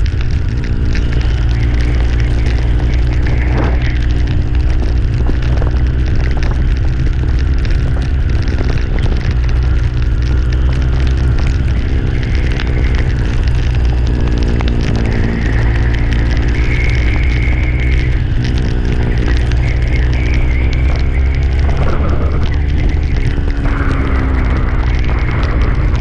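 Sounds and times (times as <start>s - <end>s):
motorcycle engine: 0.0s - 26.0s
wind rumble on microphone: 0.0s - 26.0s.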